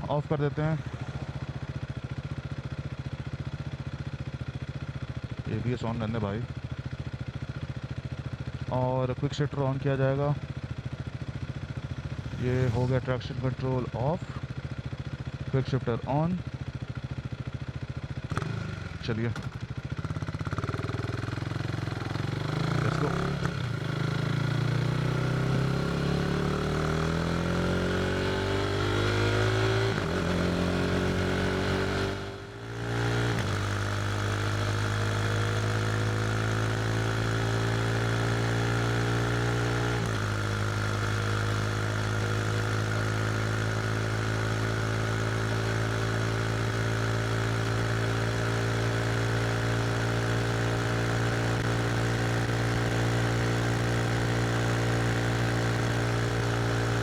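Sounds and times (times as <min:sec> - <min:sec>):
motorcycle engine accelerating: 0:10.3 - 0:15.5, 0:16.5 - 0:57.0.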